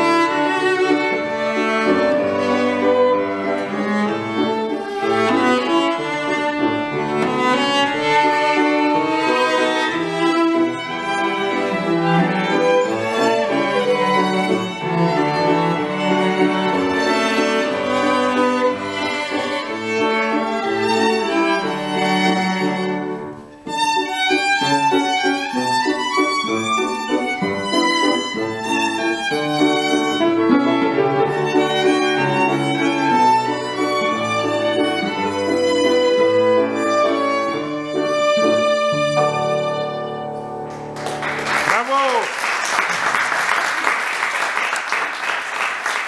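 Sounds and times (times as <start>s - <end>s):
violins: 0.0s - 41.2s
cello: 0.0s - 41.4s
piano: 0.0s - 46.0s.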